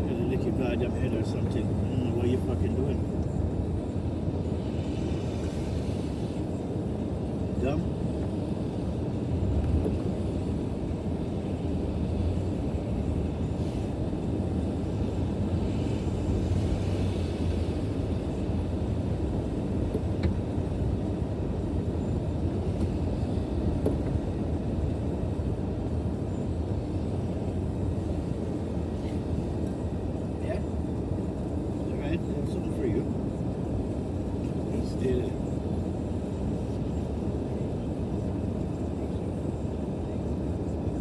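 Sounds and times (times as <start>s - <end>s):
car interior road and engine rumble: 0.0s - 41.0s.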